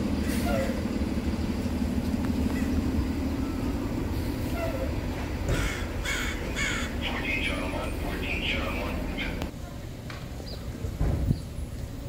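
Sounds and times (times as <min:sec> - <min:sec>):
idling vehicle engines: 0:00.0 - 0:12.0.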